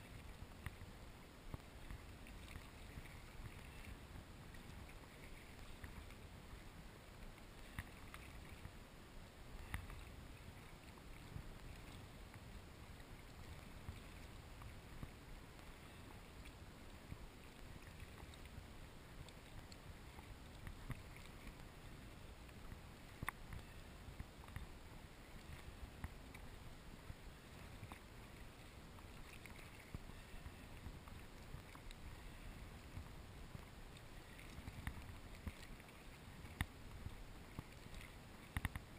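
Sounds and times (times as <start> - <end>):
low rumble of wind and water: 0.0 - 38.9
paddle splashes and waves slapping: 0.0 - 38.9.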